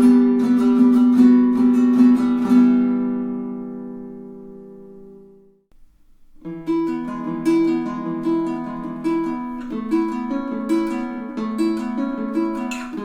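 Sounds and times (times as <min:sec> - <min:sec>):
fingerpicked ukulele notes: 0:00.0 - 0:05.4, 0:06.4 - 0:13.0
ukulele chord: 0:00.0 - 0:05.4, 0:06.4 - 0:13.0.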